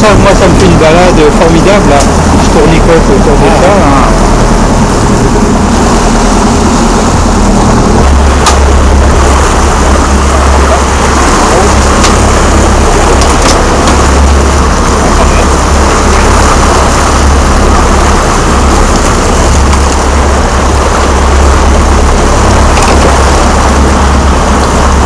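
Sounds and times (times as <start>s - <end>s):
boat engine droning: 0.0s - 25.0s
loud rushing noise: 0.0s - 25.0s.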